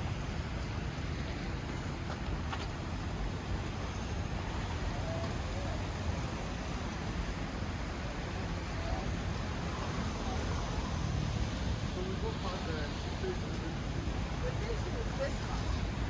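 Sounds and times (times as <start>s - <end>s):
city street noise: 0.0s - 16.0s
rain: 0.0s - 16.0s.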